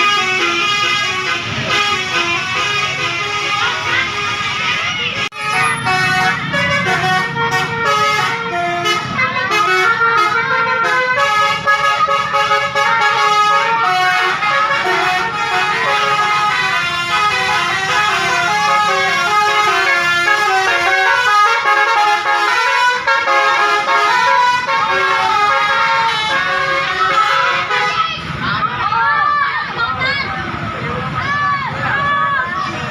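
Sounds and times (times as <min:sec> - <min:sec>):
bus musical air horn tune: 0:00.0 - 0:28.1.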